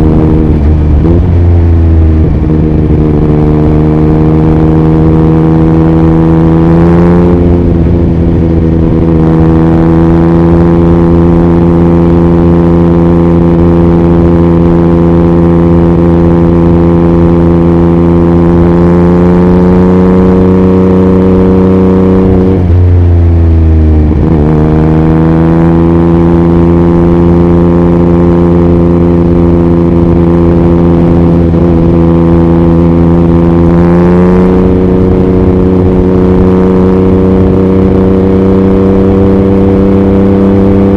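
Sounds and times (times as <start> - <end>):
motorcycle engine at highway revs: 0.0 - 40.9.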